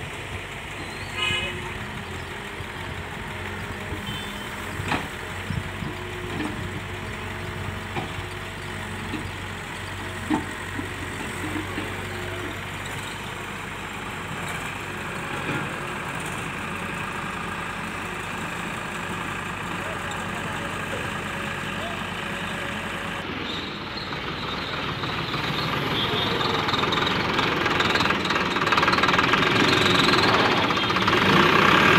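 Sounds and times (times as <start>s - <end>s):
diesel engines running: 0.0s - 31.9s
tractor engine revving: 0.6s - 31.9s.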